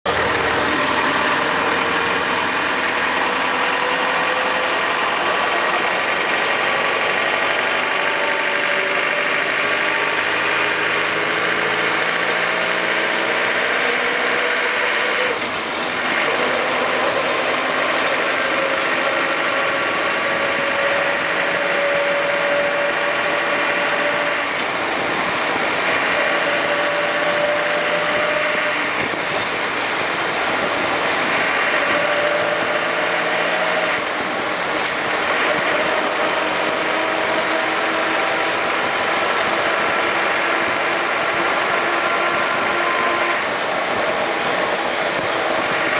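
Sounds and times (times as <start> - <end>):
vehicle drone with rising whine: 0.1 - 45.9.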